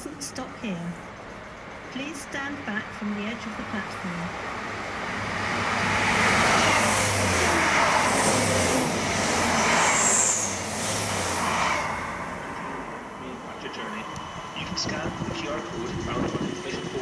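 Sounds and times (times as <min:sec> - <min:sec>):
low drone: 0:00.0 - 0:17.0
train passing at speed: 0:00.0 - 0:17.0.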